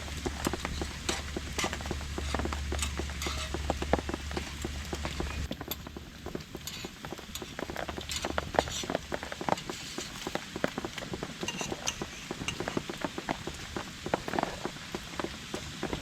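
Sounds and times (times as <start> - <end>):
rain hiss: 0.0 - 16.0
raindrops tapping on tarp: 0.0 - 16.0.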